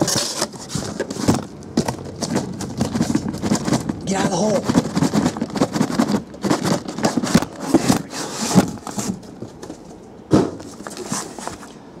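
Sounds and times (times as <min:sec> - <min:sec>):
cardboard cases scraping and knocking: 0:00.0 - 0:11.7.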